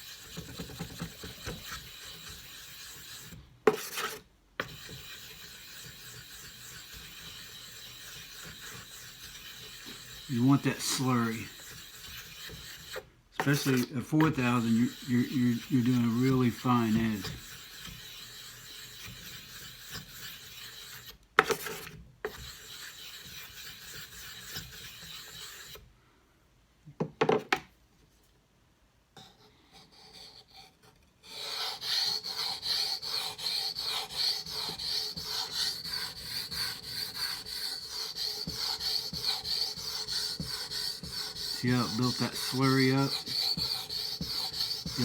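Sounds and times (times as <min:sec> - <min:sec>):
stone scraping on wet whetstone: 0:00.0 - 0:25.8, 0:29.2 - 0:45.0.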